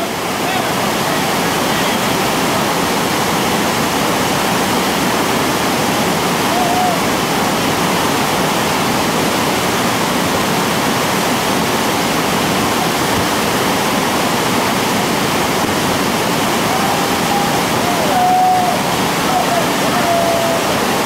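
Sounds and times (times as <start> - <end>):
whitewater rapid rushing: 0.0 - 21.0.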